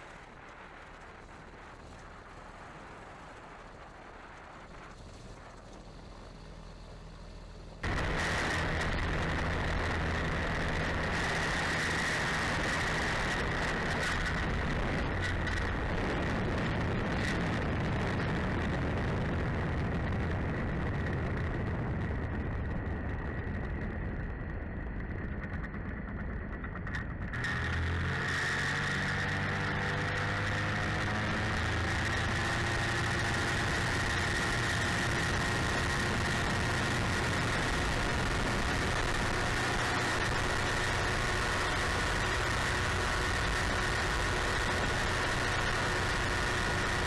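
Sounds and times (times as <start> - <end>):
light aircraft engine at high power: 0.0 - 47.0
steady whine: 0.0 - 47.0.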